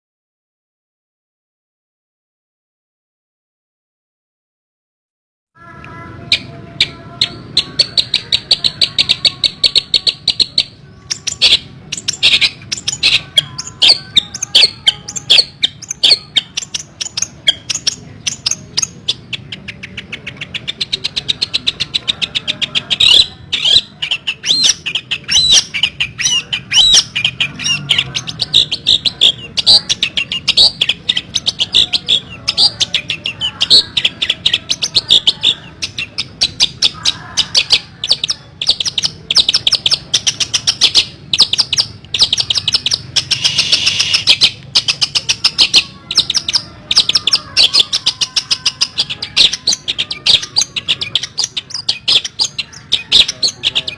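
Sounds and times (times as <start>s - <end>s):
bird chattering song: 5.6s - 53.9s.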